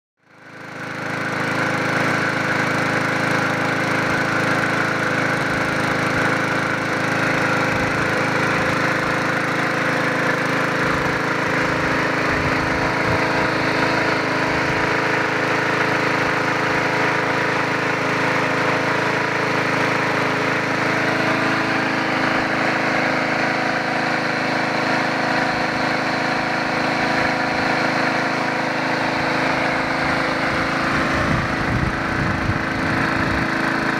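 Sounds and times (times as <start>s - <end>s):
lawn mower engine running: 0.2s - 33.9s.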